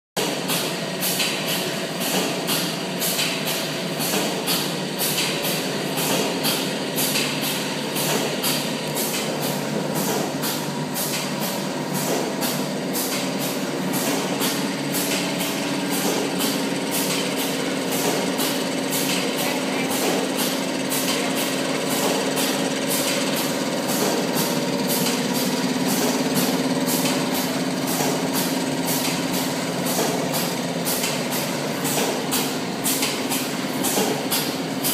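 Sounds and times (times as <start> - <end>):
box gluing machine running: 0.2 - 34.9.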